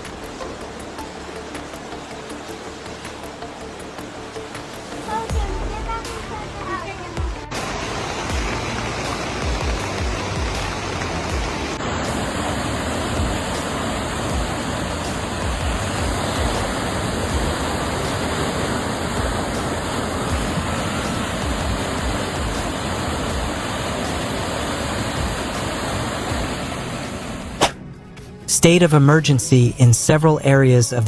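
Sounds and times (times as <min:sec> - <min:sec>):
floodwater rushing: 0:00.0 - 0:27.8.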